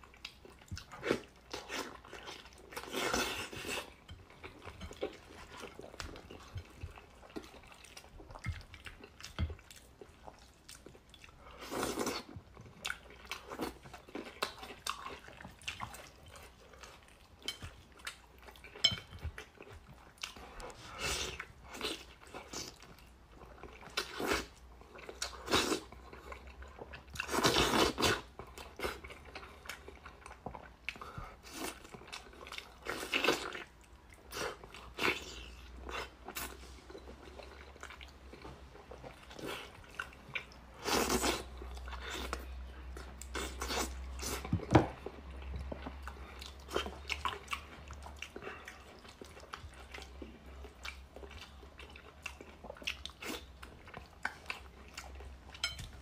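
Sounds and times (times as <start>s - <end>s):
person chewing and crunching meat: 0.0s - 56.0s.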